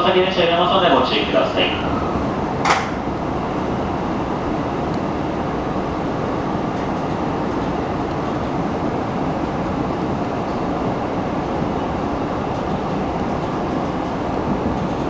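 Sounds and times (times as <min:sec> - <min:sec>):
train running noise inside car: 0:00.0 - 0:15.0.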